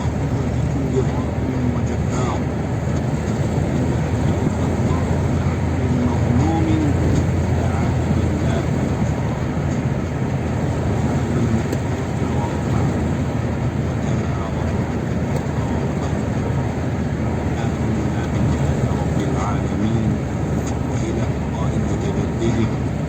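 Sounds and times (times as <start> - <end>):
vehicle driving on road: 0.0 - 23.0.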